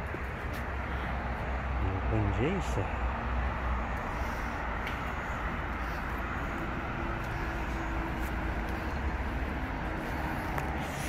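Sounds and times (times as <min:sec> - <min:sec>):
distant road traffic rumble: 0:00.0 - 0:11.0.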